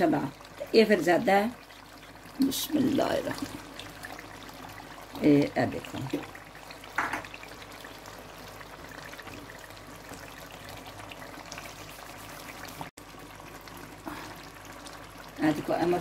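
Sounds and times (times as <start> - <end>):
curry sizzling and bubbling: 0.0 - 16.0.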